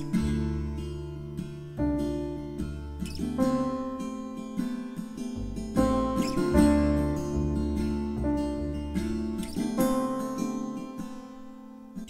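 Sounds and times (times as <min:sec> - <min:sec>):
gentle plucked instrumental music: 0:00.0 - 0:12.0.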